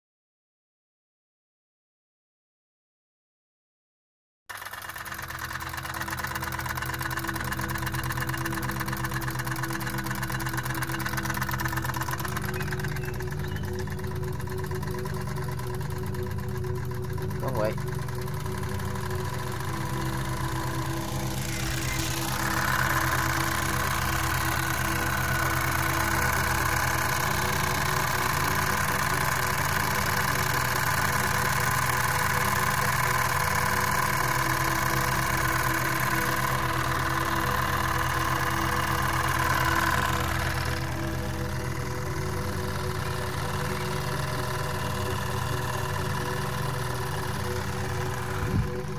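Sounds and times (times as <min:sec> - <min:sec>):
toy steam engine clatter: 0:04.5 - 0:48.9.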